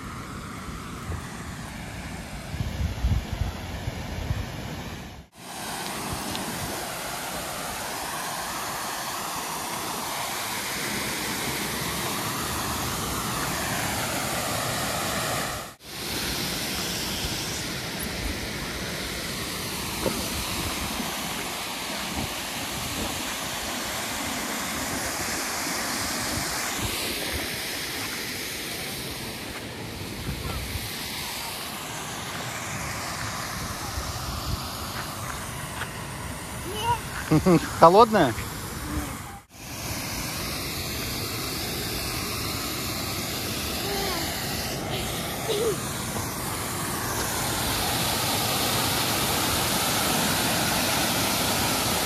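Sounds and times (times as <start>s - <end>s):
water rushing over waterfall: 4.6s - 52.0s.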